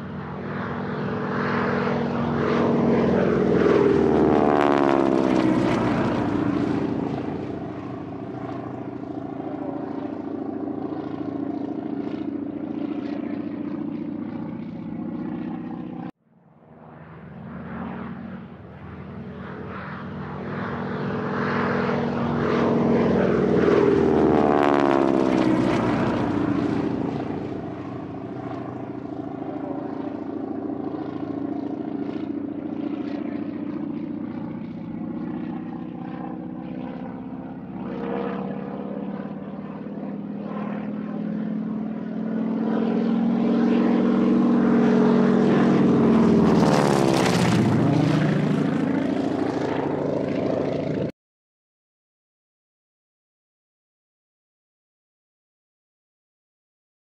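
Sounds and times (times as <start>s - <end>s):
propeller airplane engine droning: 0.0s - 51.2s.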